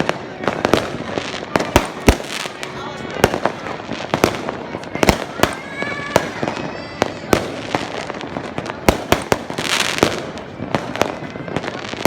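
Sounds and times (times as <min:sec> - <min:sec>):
fireworks bangs: 0:00.0 - 0:12.0
fireworks hissing crackle: 0:00.0 - 0:12.0.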